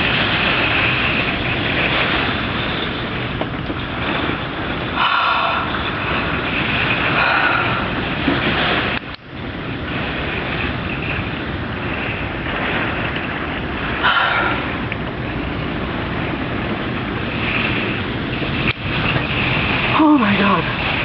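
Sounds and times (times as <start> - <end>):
strong wind rushing: 0.0 - 21.0
wind buffeting microphone: 0.0 - 21.0.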